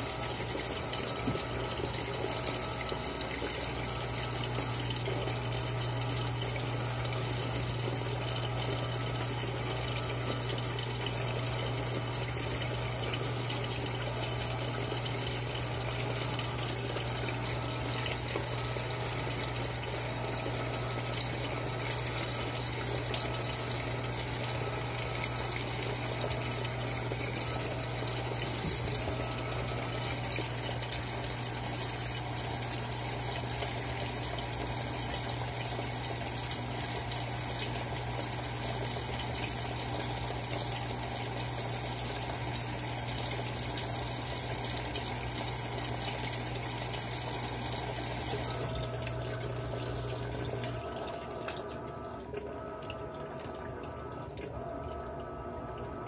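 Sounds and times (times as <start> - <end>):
washing machine low hum: 0.0 - 56.0
water pouring into washing machine: 0.0 - 56.0.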